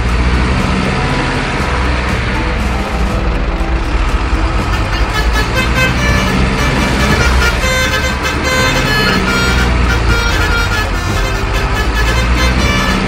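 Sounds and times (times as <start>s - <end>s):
horn-like tones: 0.0s - 13.0s
truck engine rumble: 0.0s - 13.0s.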